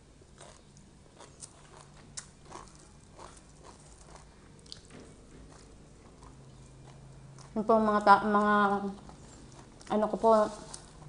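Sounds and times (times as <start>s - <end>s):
person chewing crunchy vegetables: 0.2s - 11.0s.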